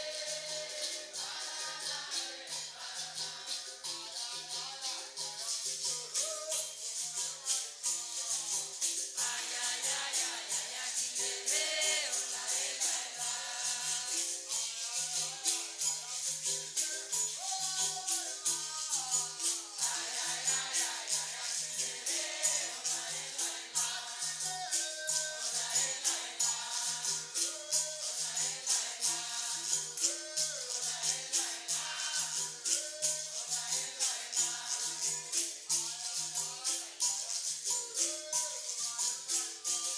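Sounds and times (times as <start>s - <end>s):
shaker rattles: 0.0s - 39.9s
voices singing: 0.0s - 39.9s.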